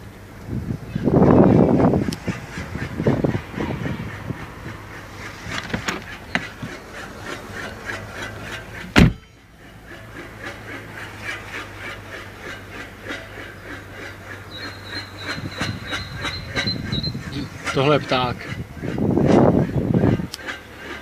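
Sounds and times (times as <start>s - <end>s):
car engine low hum: 0.0s - 21.0s.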